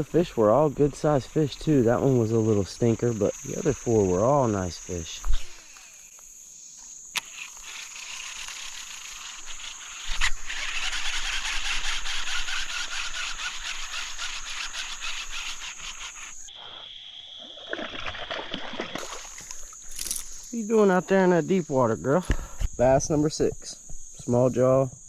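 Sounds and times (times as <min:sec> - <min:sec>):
high insect buzzing: 0:00.0 - 0:25.0.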